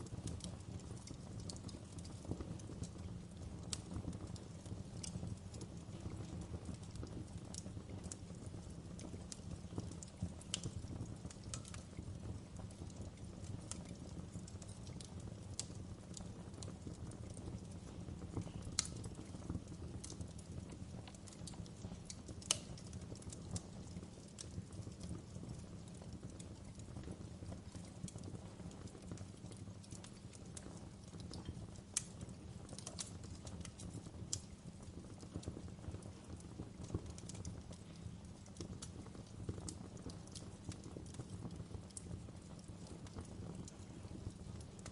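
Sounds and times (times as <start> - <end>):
low rumble of burning: 0.0 - 44.9
wood fire crackling and popping: 0.0 - 44.9.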